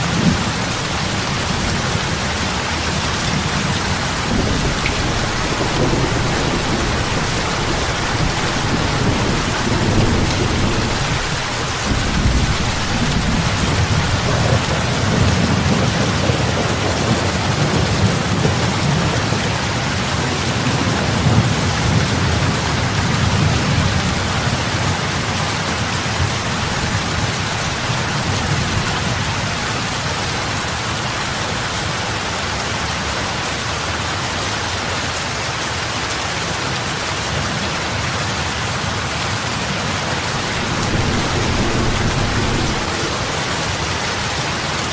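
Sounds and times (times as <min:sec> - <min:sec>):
heavy rain on water: 0:00.0 - 0:44.9.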